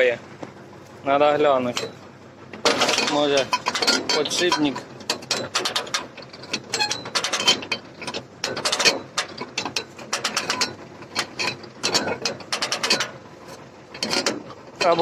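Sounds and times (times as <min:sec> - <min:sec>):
baler clattering: 0:02.6 - 0:15.0.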